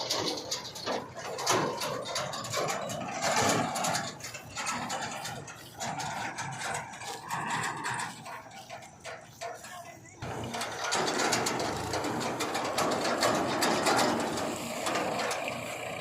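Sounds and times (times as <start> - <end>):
heavy machinery engine running: 0.0 - 16.0
sharp metal clanks and rattles: 0.0 - 16.0.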